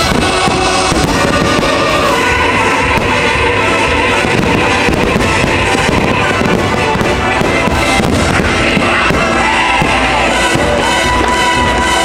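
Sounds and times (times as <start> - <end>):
fireworks bursting and crackling: 0.0 - 12.0
soundtrack music playing loudly: 0.0 - 12.0.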